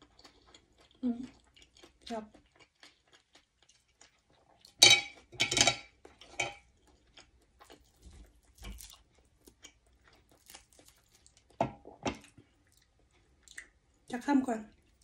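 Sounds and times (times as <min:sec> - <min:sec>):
soft chewing: 0:00.0 - 0:05.3, 0:05.9 - 0:15.0.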